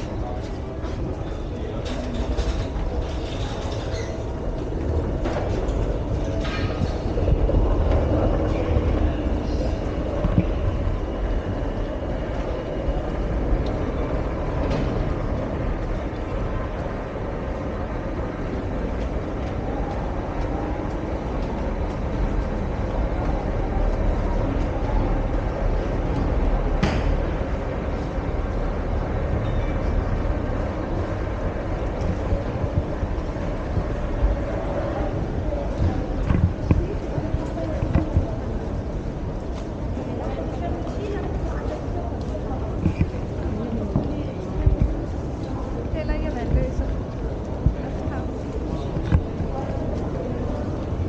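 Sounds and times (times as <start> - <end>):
metro station rumble: 0.0 - 51.0.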